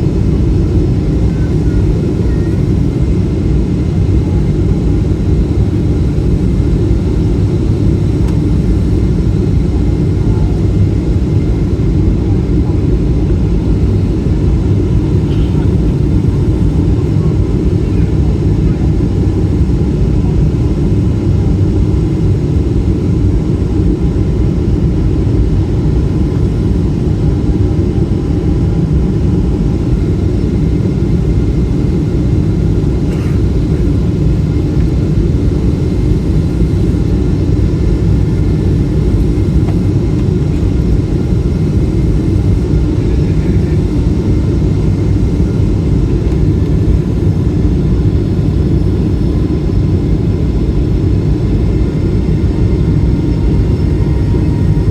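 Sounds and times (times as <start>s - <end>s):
airliner engines rumbling: 0.0s - 54.9s.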